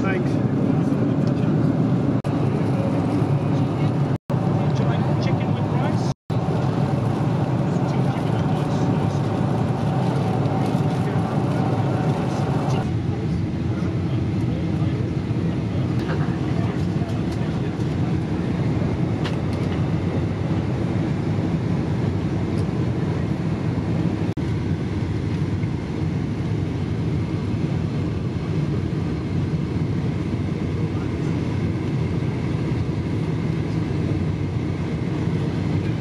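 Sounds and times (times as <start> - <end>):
airliner cabin roar: 0.0 - 36.0.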